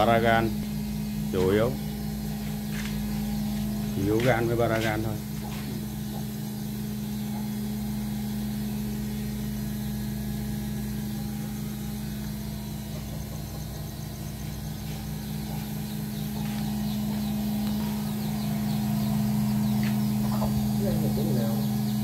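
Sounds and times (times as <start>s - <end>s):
motor humming: 0.0s - 22.0s.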